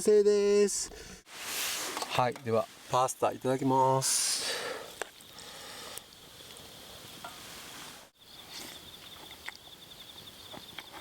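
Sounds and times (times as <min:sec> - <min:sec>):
faint background hiss: 0:00.0 - 0:10.5.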